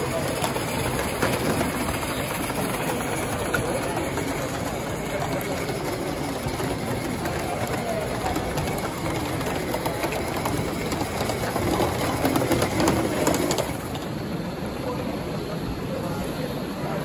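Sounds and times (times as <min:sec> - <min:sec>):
model steam locomotive clicking: 0:00.0 - 0:17.0
steady background noise: 0:00.0 - 0:17.0.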